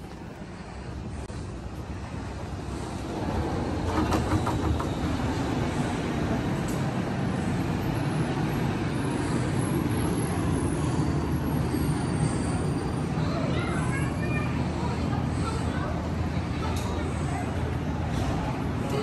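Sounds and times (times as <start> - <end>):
tram whine or squeal: 0.0 - 15.6
tram rumbling into station: 0.0 - 19.0.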